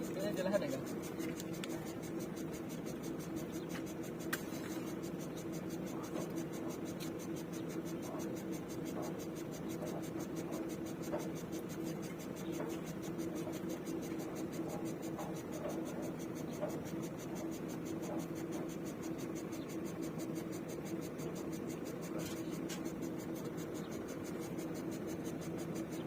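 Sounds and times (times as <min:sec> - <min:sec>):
engine idling: 0:00.0 - 0:26.0
fast regular ticking: 0:00.0 - 0:26.0.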